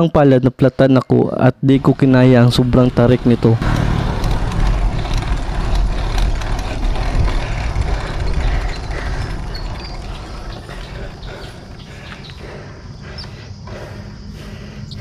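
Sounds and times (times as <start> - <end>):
bicycle tyres on paved road: 1.8 - 15.0
wind buffeting microphone: 1.8 - 15.0.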